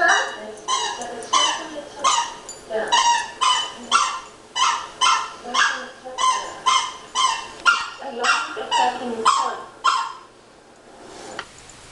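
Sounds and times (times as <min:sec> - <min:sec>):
dogs barking: 0:00.0 - 0:10.4.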